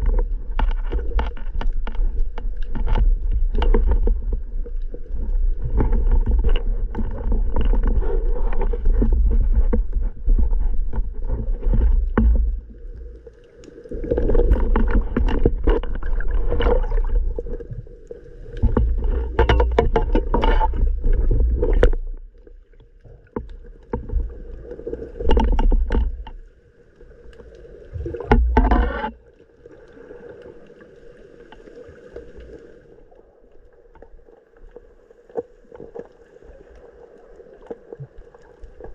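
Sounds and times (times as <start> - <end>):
water sloshing and bubbling: 0.0 - 38.9.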